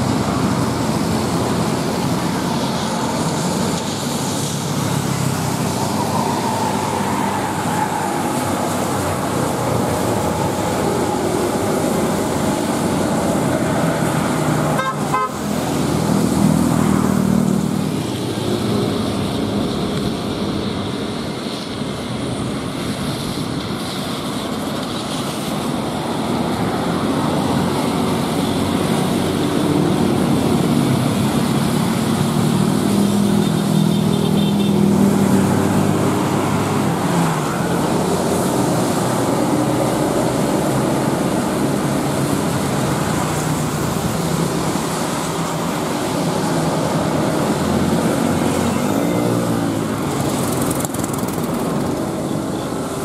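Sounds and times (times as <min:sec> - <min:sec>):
bus diesel engine passing: 0:00.0 - 0:53.0
traffic noise: 0:00.0 - 0:53.0.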